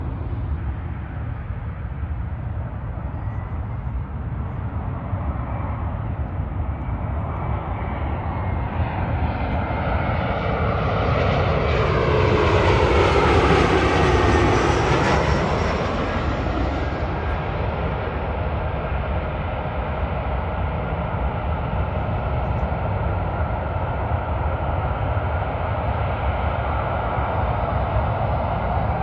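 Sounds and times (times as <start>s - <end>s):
airliner passing: 0.0s - 29.0s.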